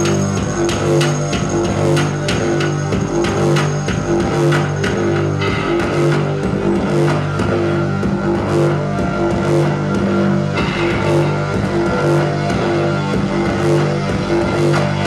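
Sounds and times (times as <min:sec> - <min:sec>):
bass guitar: 0:00.0 - 0:15.0.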